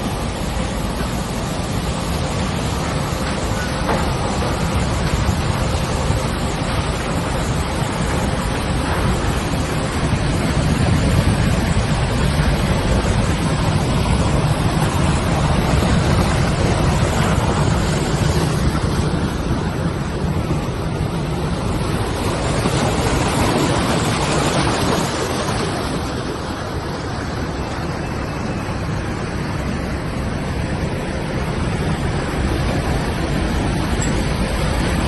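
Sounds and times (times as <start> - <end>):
machine rumbling: 0.0 - 35.0
rushing water: 0.0 - 35.0.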